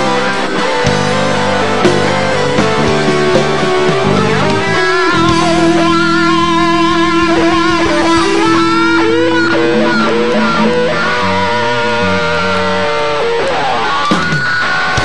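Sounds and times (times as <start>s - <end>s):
bass guitar: 0.0s - 15.0s
drums: 0.0s - 15.0s
electric guitar lead with vibrato: 0.0s - 15.0s.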